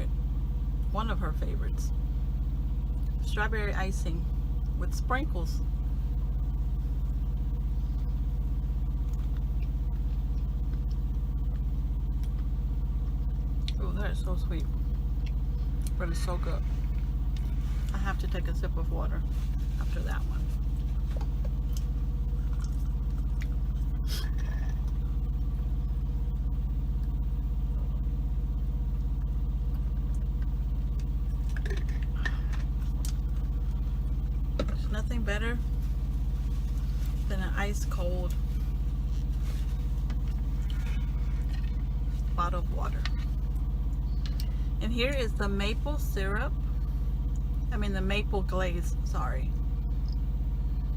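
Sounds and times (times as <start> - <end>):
truck diesel engine idling: 0.0 - 50.9.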